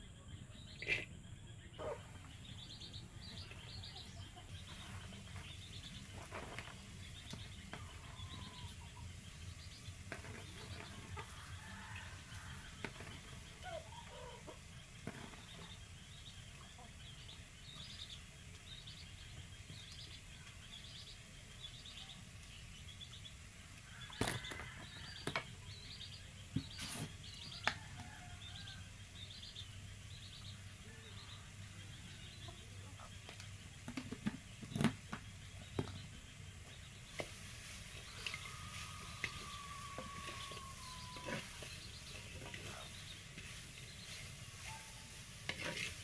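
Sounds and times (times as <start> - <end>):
bird chirping: 0.0 - 46.0.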